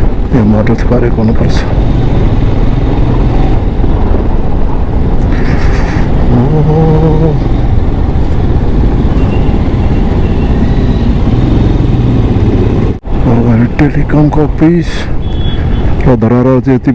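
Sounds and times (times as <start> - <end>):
low wind rumble: 0.0 - 16.9
road traffic: 0.0 - 16.9.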